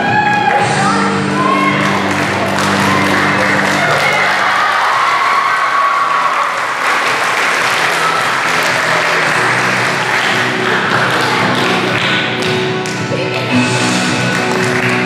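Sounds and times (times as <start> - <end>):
background music: 0.0 - 15.0
audience applauding: 1.6 - 15.0.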